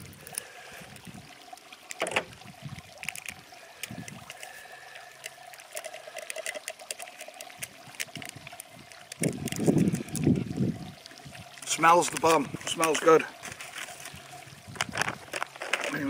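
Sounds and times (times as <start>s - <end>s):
powder trickling into water: 0.0s - 16.0s.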